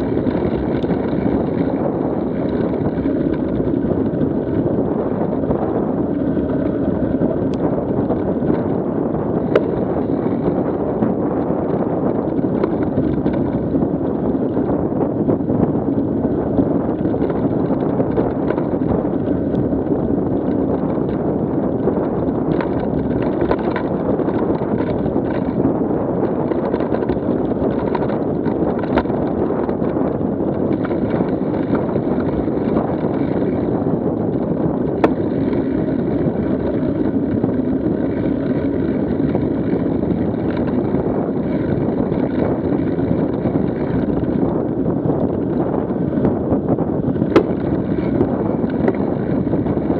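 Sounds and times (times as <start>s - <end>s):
mountain bike tyres rumbling on dirt: 0.0s - 49.9s
small clicks and rattles: 0.0s - 49.9s
wind on microphone: 0.0s - 49.9s.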